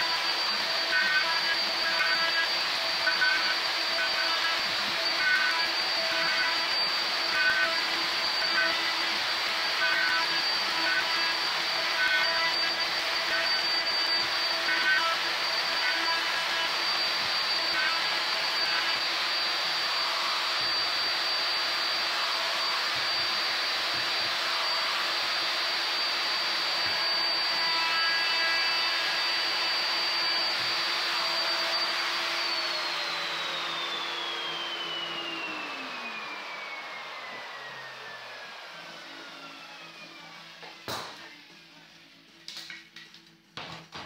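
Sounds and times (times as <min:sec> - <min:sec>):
vacuum rushing hiss: 0:00.0 - 0:41.8
router whining: 0:00.0 - 0:42.4.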